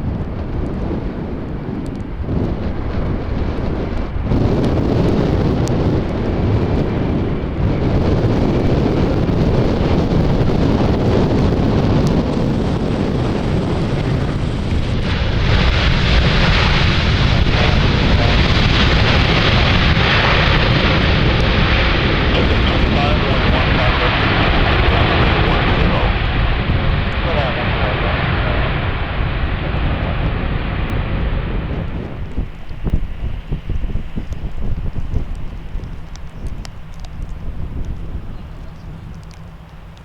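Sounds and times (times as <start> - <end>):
jet airliner engine rumble: 0.0 - 40.0
wind buffeting microphone: 0.0 - 40.0.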